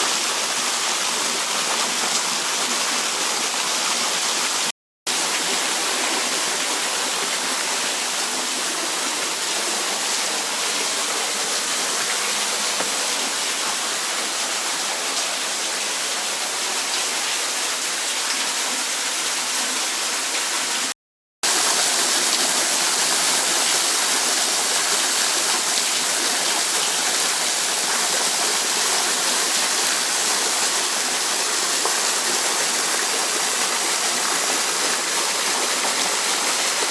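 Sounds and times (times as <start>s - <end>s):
waterfall hissing: 2.3s - 18.0s, 21.4s - 36.9s.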